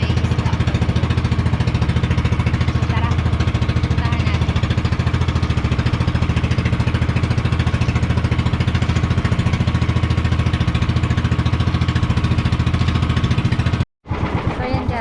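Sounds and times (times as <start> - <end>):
boat motor chugging: 0.0 - 15.0.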